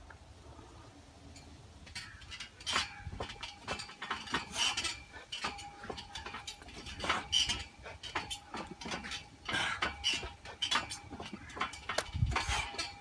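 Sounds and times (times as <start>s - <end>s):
ringing metal tone: 1.4s - 13.0s
metal bar clanking: 1.8s - 13.0s.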